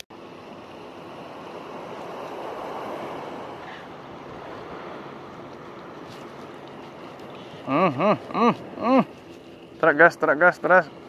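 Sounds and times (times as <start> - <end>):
sea water lapping at shore: 0.2 - 9.9.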